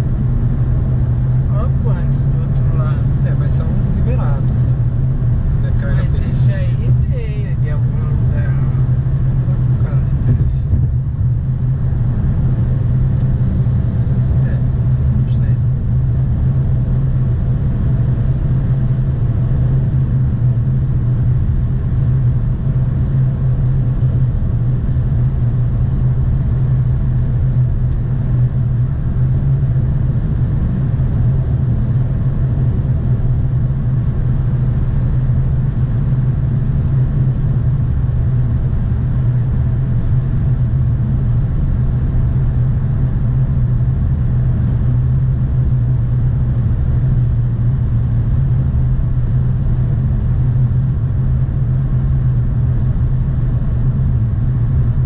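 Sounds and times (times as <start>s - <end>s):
engine and tyre drone: 0.0s - 55.0s
road and wind noise: 0.0s - 55.0s.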